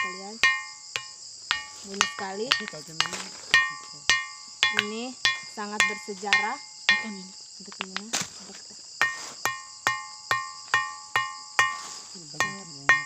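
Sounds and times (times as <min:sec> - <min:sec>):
ringing stone struck: 0:00.0 - 0:08.0, 0:09.0 - 0:13.0
insects droning: 0:00.0 - 0:13.0.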